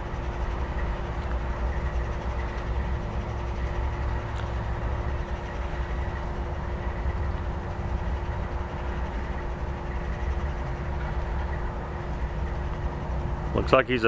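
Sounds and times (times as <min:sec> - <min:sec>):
diesel locomotive idling: 0:00.0 - 0:14.0.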